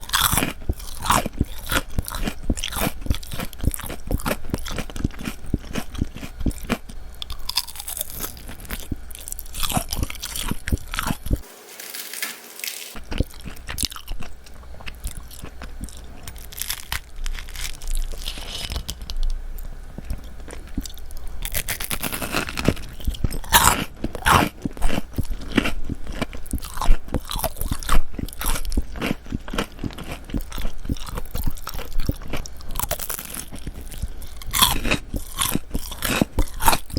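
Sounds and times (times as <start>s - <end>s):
crunching and chewing fried food: 0.0s - 36.9s.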